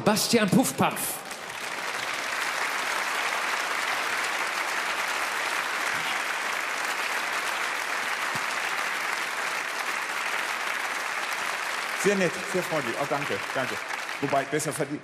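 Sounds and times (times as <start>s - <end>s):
audience applauding: 0.8s - 15.0s.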